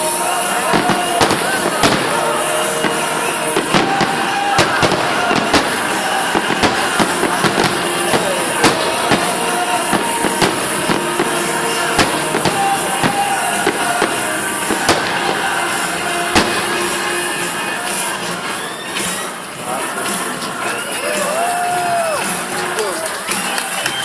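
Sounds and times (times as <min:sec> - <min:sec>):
fireworks bangs and cracks: 0:00.0 - 0:20.8.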